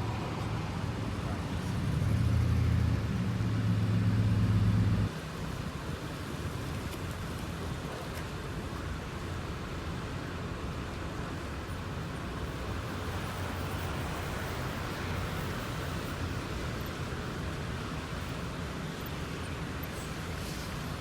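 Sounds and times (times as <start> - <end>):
vehicle road noise: 0.0 - 21.0.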